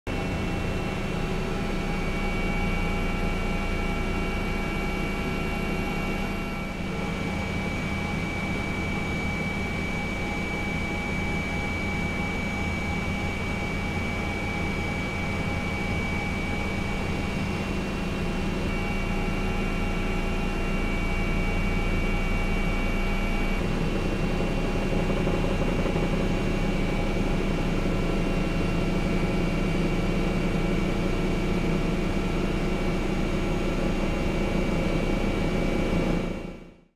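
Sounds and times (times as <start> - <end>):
motor humming and whining: 0.1 - 36.8.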